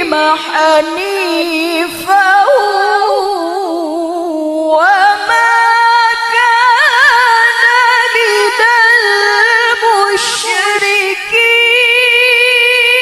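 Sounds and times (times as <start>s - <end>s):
woman chanting through a microphone: 0.0s - 13.0s.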